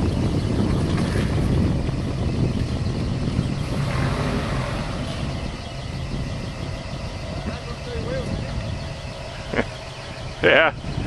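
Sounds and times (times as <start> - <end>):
engine working under load: 0.0 - 11.0.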